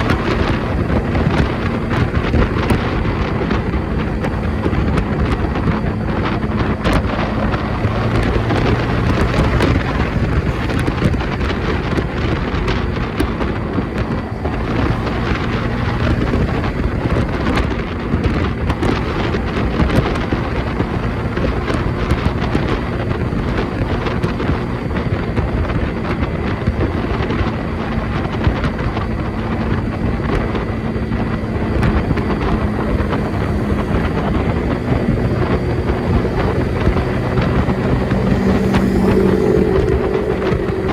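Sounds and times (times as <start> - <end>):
low engine hum: 0.0 - 40.9
wind buffeting microphone: 0.0 - 40.9.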